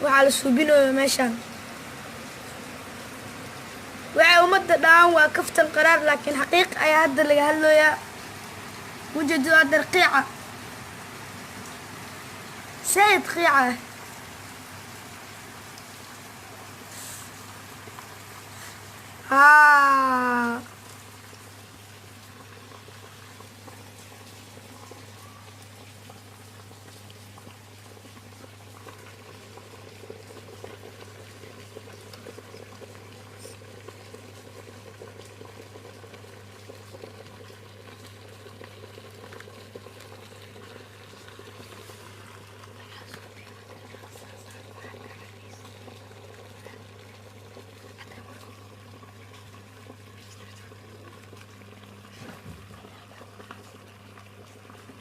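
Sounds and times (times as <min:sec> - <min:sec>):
water bubbling and crackling: 0:00.0 - 0:55.0.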